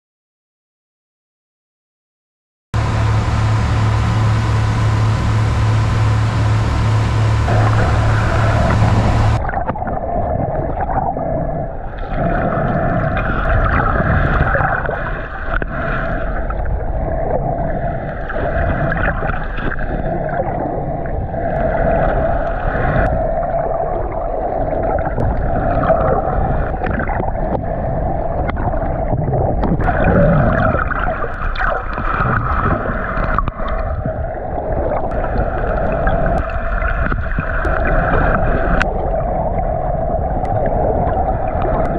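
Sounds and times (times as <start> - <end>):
muffled underwater hum: 2.8 - 41.9
water rushing and gurgling: 2.8 - 41.9.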